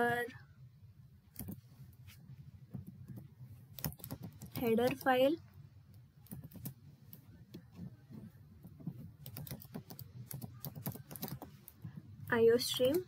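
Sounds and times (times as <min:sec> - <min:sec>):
faint keyboard typing: 0:01.3 - 0:01.8, 0:02.7 - 0:13.0.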